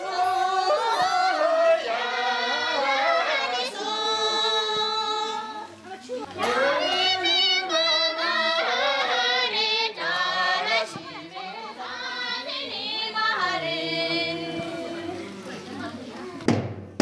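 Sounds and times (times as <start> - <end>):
women singing together: 0.0 - 16.0.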